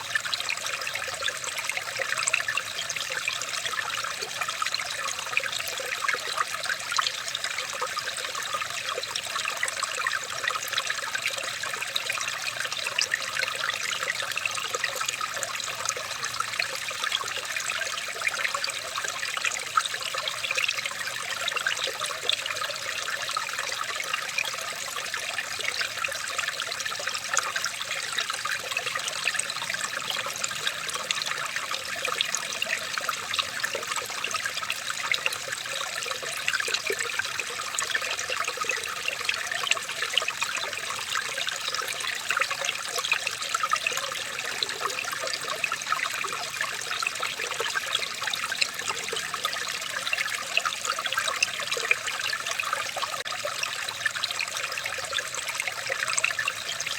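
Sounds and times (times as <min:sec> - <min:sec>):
stream water trickling: 0:00.0 - 0:56.9.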